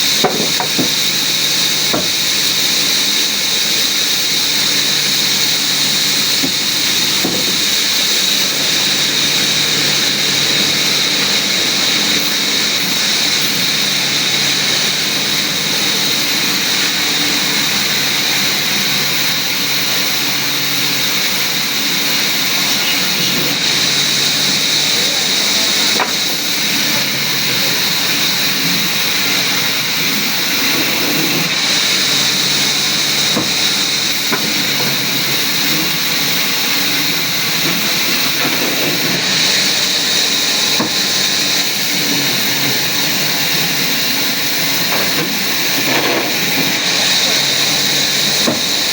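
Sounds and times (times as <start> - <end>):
power saw cutting wood: 0.0 - 48.9.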